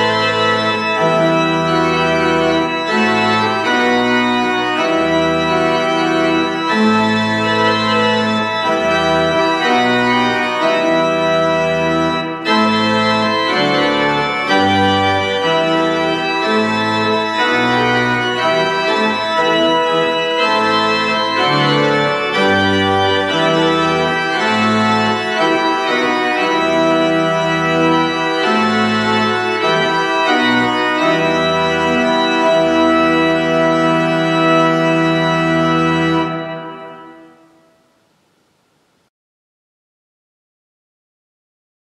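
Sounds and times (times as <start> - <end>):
pipe organ playing chords: 0.0 - 38.8.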